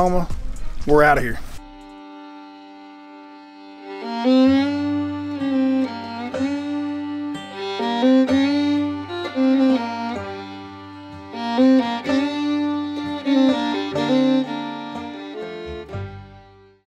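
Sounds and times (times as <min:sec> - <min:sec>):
instrumental music: 0:01.6 - 0:16.9.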